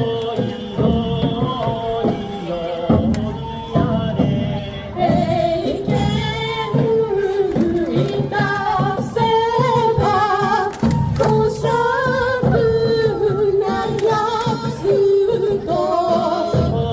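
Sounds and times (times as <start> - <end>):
singing over dance beat: 0.0 - 16.9.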